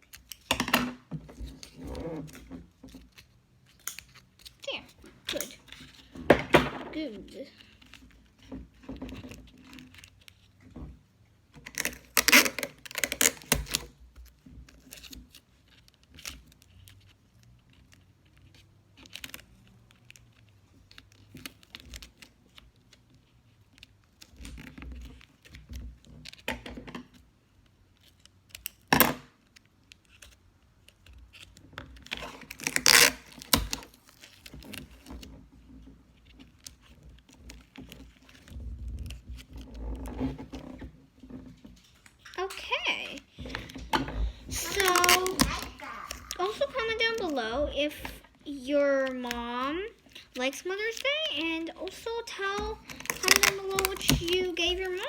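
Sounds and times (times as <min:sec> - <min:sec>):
paper and tape rustling: 0:01.2 - 0:55.0.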